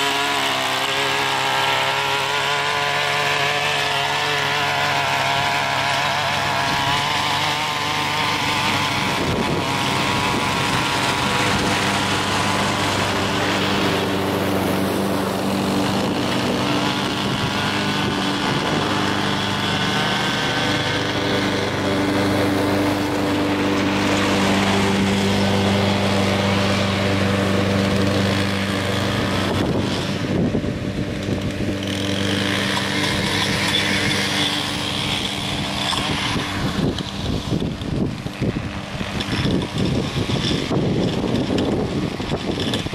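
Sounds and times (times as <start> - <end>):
lawn mower engine cutting grass: 0.0 - 42.9
string trimmer whine: 0.0 - 42.9.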